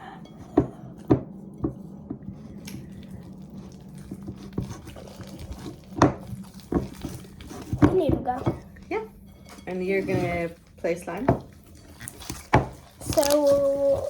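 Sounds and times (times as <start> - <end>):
slime being stirred: 0.2 - 14.0.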